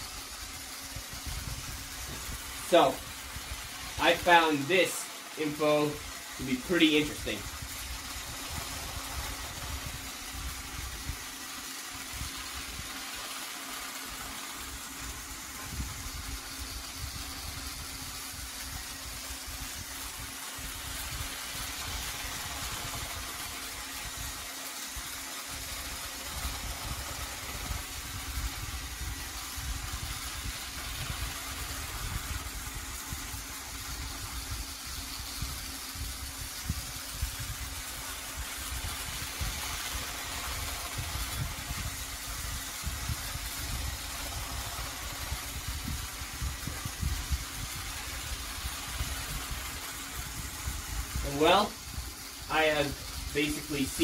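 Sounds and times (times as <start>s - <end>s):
toy train motor hum: 0.0s - 54.0s.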